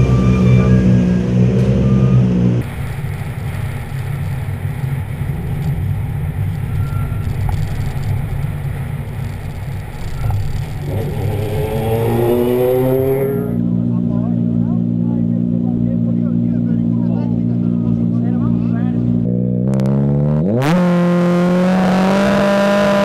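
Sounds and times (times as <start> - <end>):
outdoor noise: 0.0 - 23.0
rally car engine: 0.0 - 23.0.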